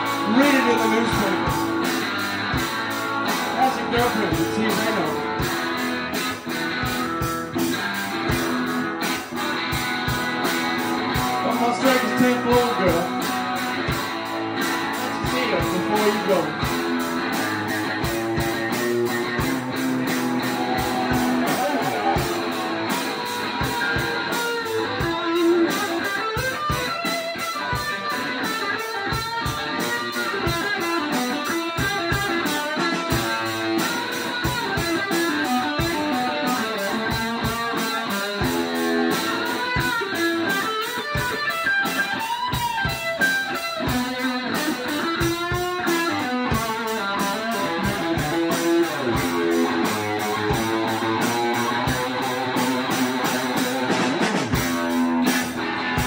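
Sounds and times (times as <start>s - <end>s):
drum beat: 0.0s - 56.0s
electric guitar: 0.0s - 56.0s.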